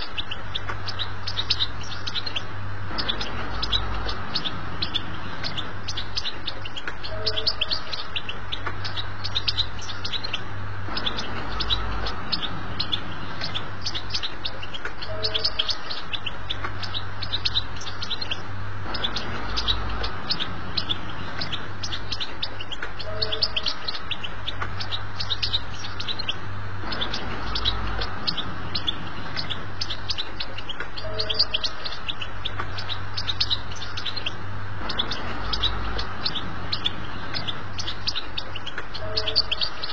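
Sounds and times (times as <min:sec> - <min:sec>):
finch singing fast twitter: 0:00.0 - 0:39.9
low steady hum: 0:00.0 - 0:39.9.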